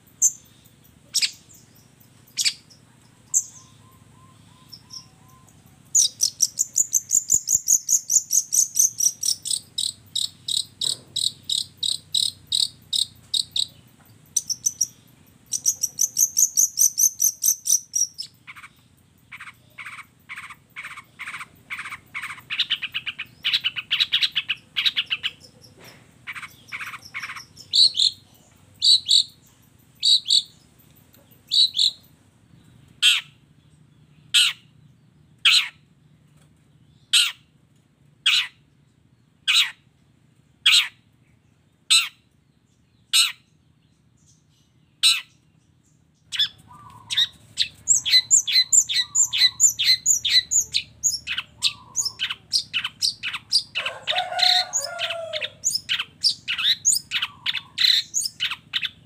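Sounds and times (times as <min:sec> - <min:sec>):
sharp bird calls: 0:00.0 - 0:36.0, 0:36.9 - 0:37.6, 0:38.2 - 0:40.0, 0:40.6 - 0:59.0
shrike song trills: 0:00.0 - 0:36.0, 0:40.6 - 0:59.0.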